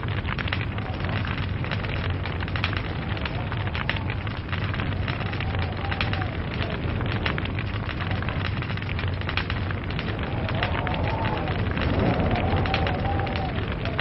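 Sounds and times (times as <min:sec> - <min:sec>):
fire rumble and hiss: 0:00.0 - 0:14.0
wood fire crackling and popping: 0:00.0 - 0:14.0.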